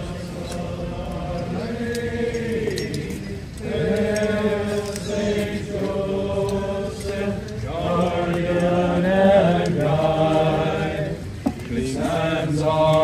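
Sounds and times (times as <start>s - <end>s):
group singing a hymn: 0.0s - 13.0s.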